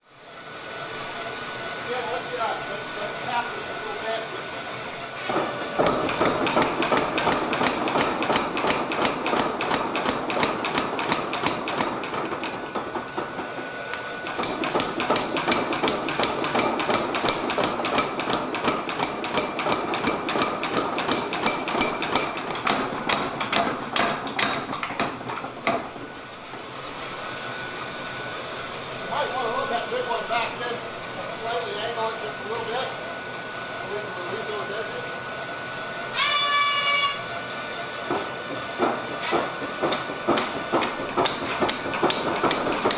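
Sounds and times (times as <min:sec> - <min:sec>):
machine running noise: 0:00.0 - 0:42.9.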